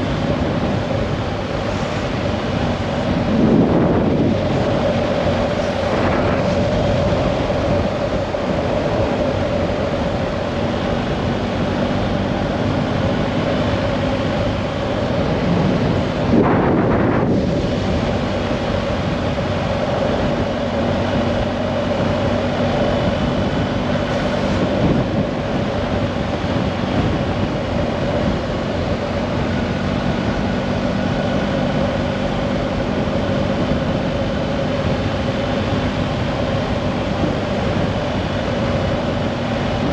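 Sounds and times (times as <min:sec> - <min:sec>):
engine humming steadily: 0:00.0 - 0:39.9
wind blowing on microphone: 0:00.0 - 0:39.9.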